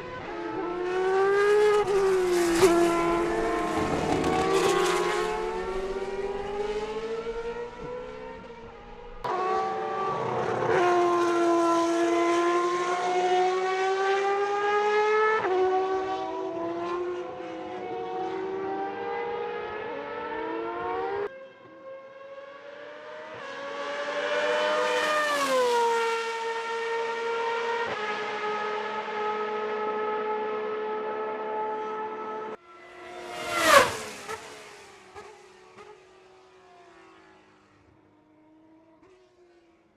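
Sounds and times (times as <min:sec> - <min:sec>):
racing engine at high revs: 0:00.0 - 0:21.3, 0:22.3 - 0:37.8.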